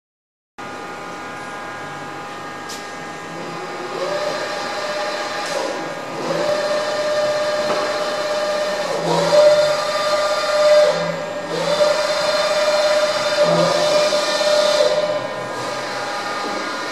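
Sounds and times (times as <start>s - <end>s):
axis drive whining: 0.6s - 16.9s
milling machine humming: 0.6s - 16.9s.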